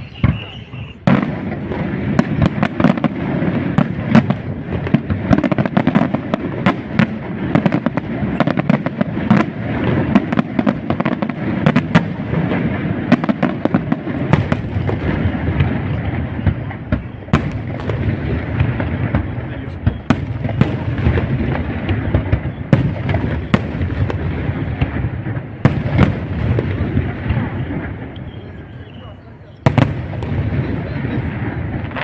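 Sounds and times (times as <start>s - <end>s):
fireworks bursting and cracking: 0.0s - 32.0s.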